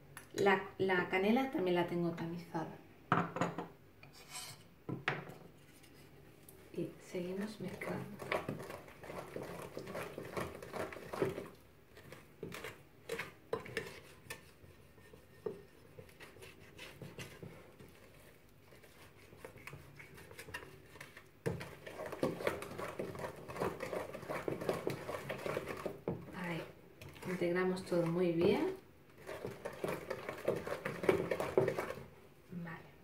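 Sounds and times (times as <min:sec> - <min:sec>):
spoon stirring batter in glass bowl: 0:05.3 - 0:32.2.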